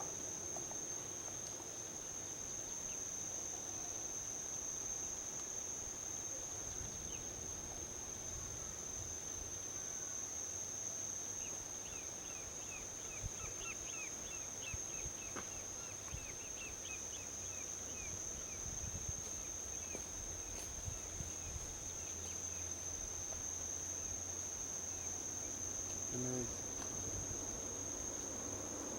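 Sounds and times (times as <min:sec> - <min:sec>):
insects droning: 0:00.0 - 0:28.9.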